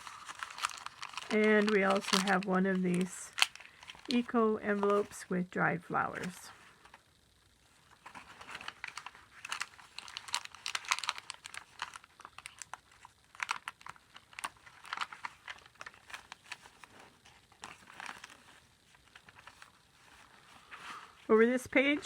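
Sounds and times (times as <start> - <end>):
paper crinkling and rustling: 0.0 - 5.2, 7.7 - 22.0.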